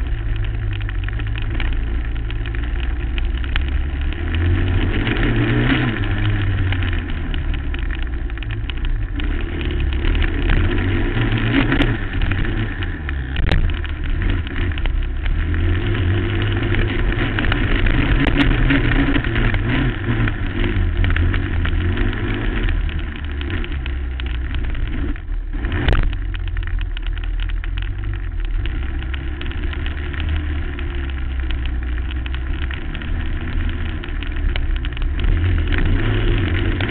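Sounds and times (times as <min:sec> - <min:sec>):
quad bike engine revving: 0:00.0 - 0:26.8, 0:27.5 - 0:36.9.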